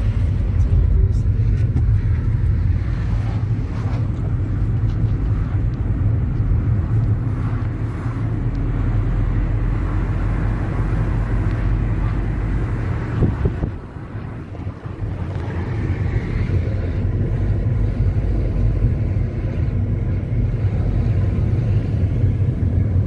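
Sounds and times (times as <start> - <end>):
car driving rumble: 0.0 - 23.0.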